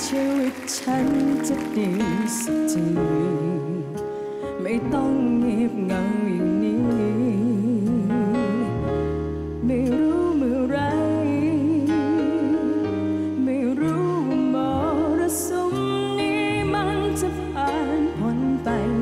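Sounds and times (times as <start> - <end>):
woman singing a pop ballad: 0.0 - 8.9, 9.6 - 19.0.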